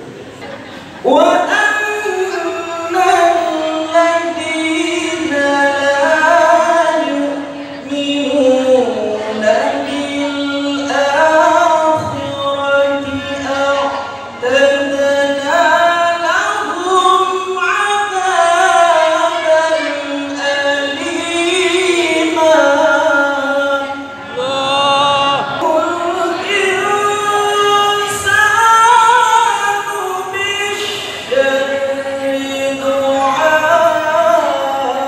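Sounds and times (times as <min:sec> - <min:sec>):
man reciting melodically into microphone: 0:00.6 - 0:35.0.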